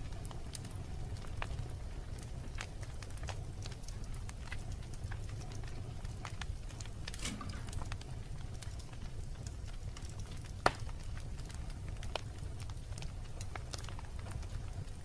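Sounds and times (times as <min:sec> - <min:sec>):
fire crackling: 0:00.0 - 0:15.0
low rumble of flames: 0:00.0 - 0:15.0.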